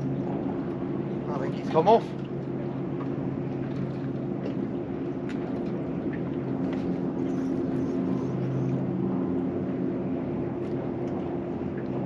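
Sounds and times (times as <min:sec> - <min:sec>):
boat engine humming: 0:00.0 - 0:12.0
water noise: 0:00.0 - 0:12.0
wind: 0:00.0 - 0:12.0.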